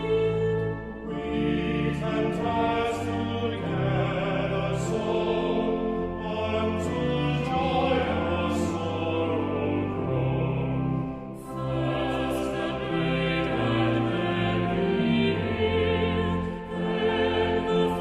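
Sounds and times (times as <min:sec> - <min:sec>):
organ chords: 0:00.0 - 0:18.0
voices singing a hymn: 0:00.0 - 0:18.0.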